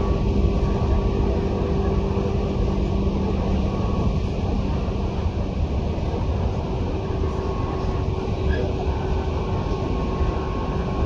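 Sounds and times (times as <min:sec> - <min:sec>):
faint steady whine: 0:00.0 - 0:11.0
train wheels rumbling: 0:00.0 - 0:11.0.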